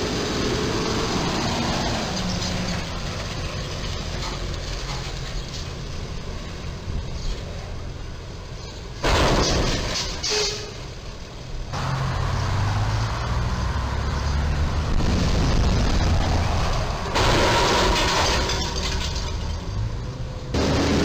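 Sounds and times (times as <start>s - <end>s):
road traffic engines rumbling: 0.0s - 21.0s.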